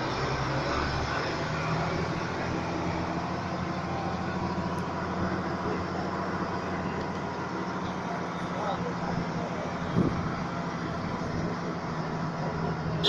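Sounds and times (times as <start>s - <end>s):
minibus engine running: 0.0s - 13.0s
road and wind noise: 0.0s - 13.0s.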